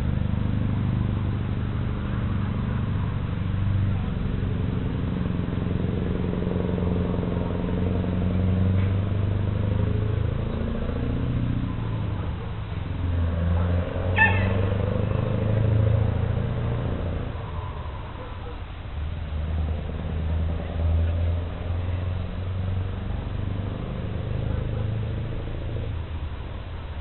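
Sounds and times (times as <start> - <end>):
diesel truck engine pulling away: 0.0 - 27.0.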